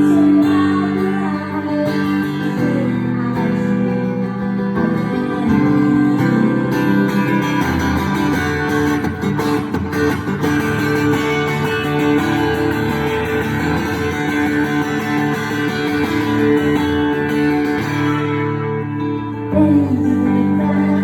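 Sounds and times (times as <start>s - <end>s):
strummed guitar music: 0.0s - 21.0s.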